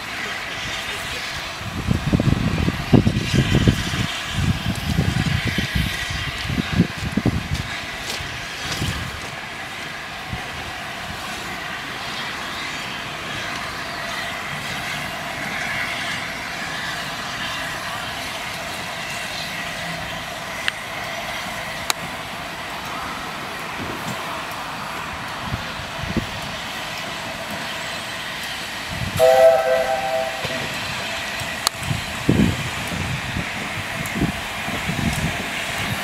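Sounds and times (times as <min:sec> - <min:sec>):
train passing with steady hiss: 0:00.0 - 0:36.0.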